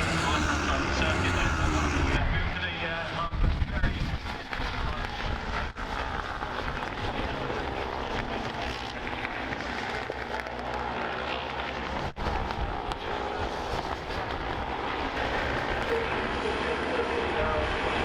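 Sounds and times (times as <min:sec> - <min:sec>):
racing motorcycle engines: 0:00.0 - 0:18.0.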